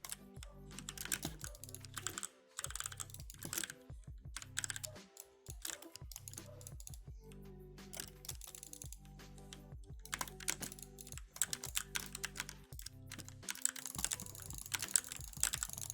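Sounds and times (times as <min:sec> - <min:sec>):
mechanical keyboard typing: 0:00.0 - 0:07.0, 0:07.9 - 0:15.9.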